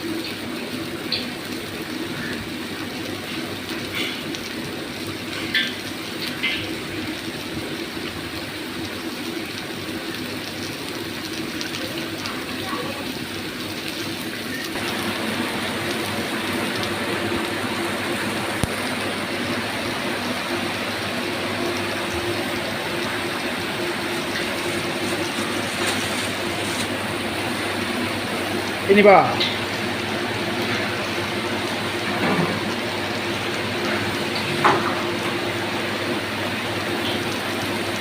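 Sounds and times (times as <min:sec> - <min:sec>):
vegetables sizzling in a pan: 0:00.0 - 0:38.0.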